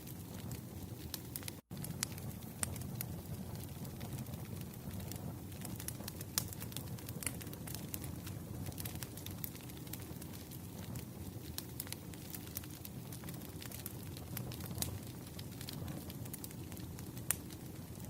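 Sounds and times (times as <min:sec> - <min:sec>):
logs crackling and popping: 0:00.0 - 0:18.0
rush of flames: 0:00.0 - 0:18.0.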